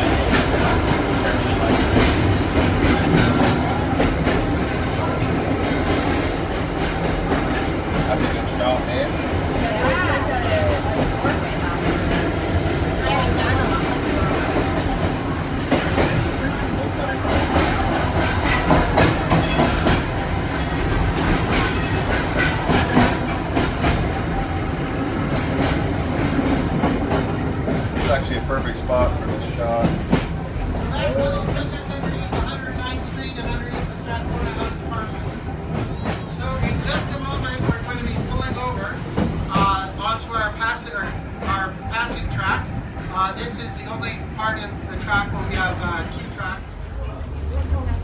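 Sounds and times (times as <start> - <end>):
wheels clacking on rail joints: 0.0 - 46.4
streetcar rumbling: 0.0 - 48.0.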